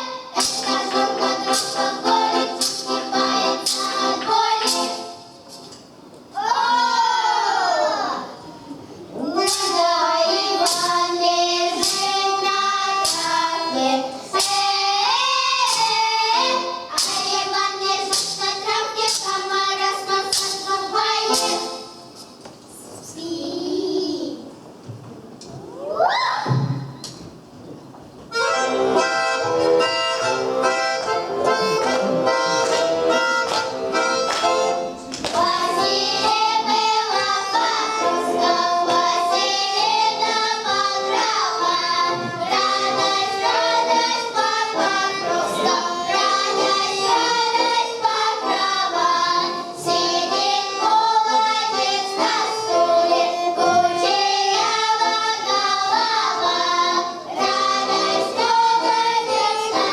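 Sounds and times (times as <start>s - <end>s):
voices singing folk song: 0.0s - 5.3s, 9.2s - 22.0s, 28.3s - 59.9s
accordion-like instrumental: 0.0s - 6.1s, 9.5s - 22.4s, 28.3s - 59.9s.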